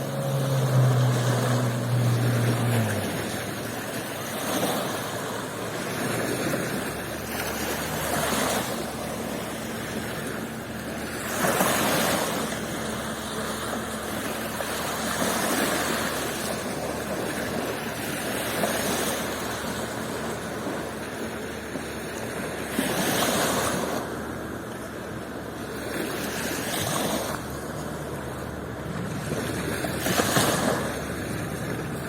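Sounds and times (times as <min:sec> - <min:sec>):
sea waves breaking on beach: 0:00.0 - 0:32.0.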